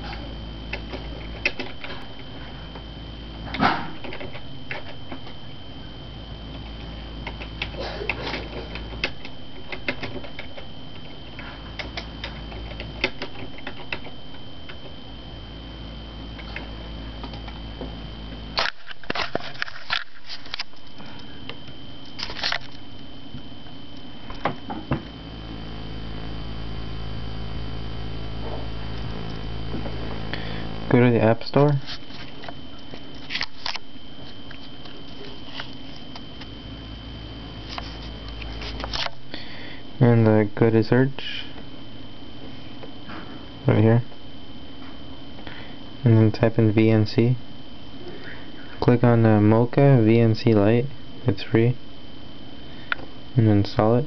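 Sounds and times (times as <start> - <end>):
faint high whine: 0.0 - 54.0
low hum: 0.0 - 54.0.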